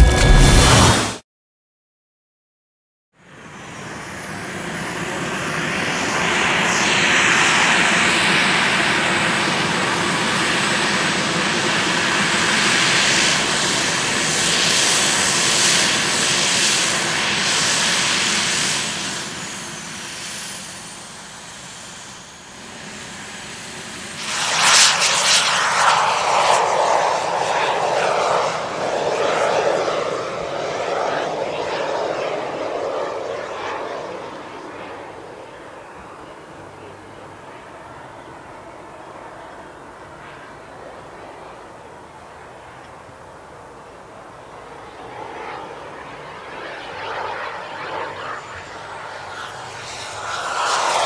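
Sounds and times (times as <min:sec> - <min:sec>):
model jet turbine hiss and whine: 0:03.2 - 0:51.0.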